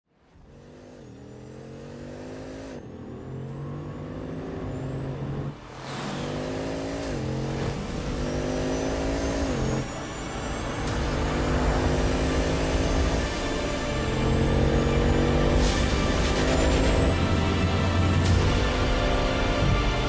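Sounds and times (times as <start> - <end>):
car engine accelerating hard: 0.3 - 20.0.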